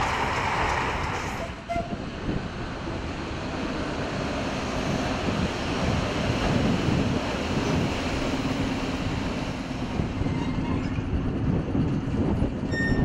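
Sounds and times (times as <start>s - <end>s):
train wheels rumbling over rails: 0.0s - 13.0s.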